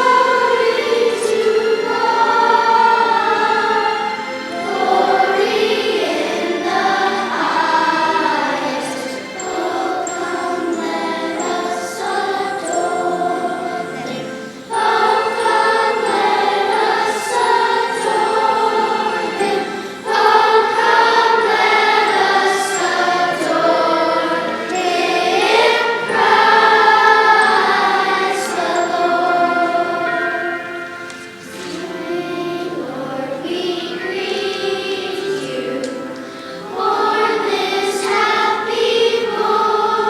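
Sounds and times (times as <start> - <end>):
choir singing: 0.0 - 40.0.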